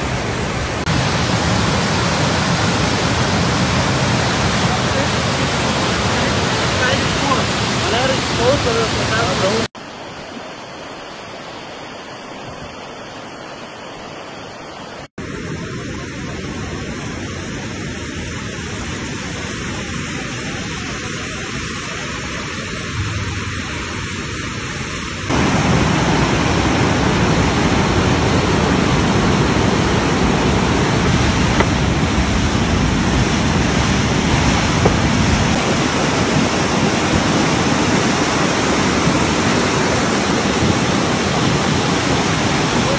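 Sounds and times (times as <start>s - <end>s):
floodwater rushing: 0.0s - 42.9s.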